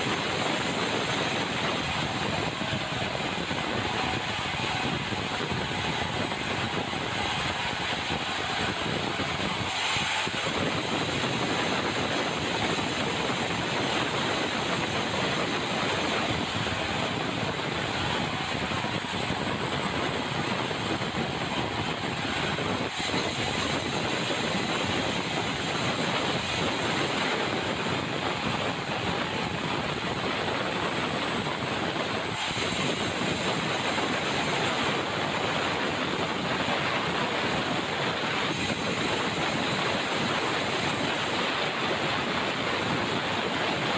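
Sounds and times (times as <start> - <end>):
sawmill saw and engine running: 0.0 - 42.6.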